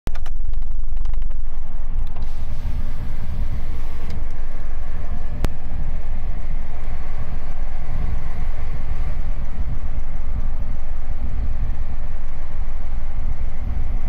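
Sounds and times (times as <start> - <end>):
truck engine and tyre rumble: 0.1 - 14.0.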